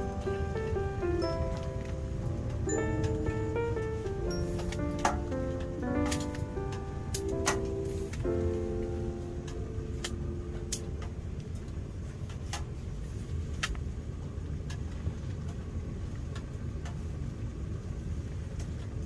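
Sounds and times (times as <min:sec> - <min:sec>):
pellet stove fire crackling: 0:00.0 - 0:19.0.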